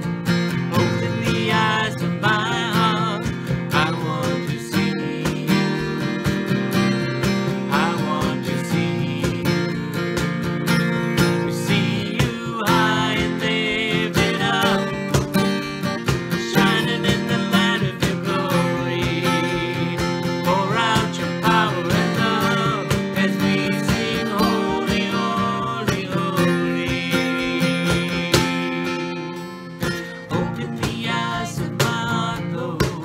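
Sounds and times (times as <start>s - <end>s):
acoustic guitar strumming: 0.0s - 33.0s
man and woman singing: 0.7s - 6.4s, 7.5s - 10.4s, 11.3s - 29.0s, 30.3s - 33.0s.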